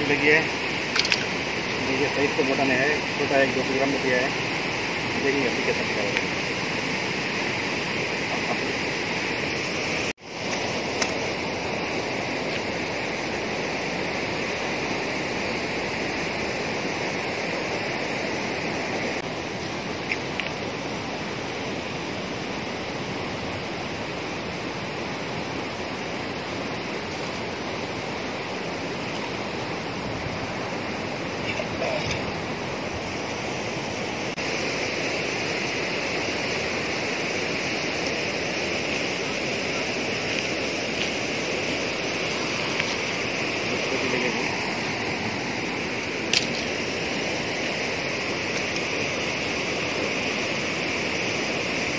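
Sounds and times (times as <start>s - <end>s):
rushing churning water: 0.0s - 51.9s.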